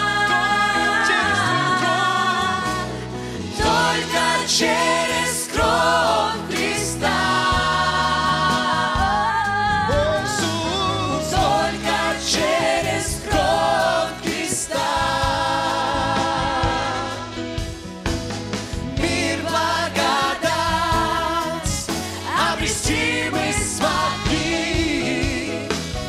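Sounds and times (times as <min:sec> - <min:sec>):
congregation singing: 0:00.0 - 0:17.8, 0:18.6 - 0:26.0
church band playing worship song: 0:00.0 - 0:26.0.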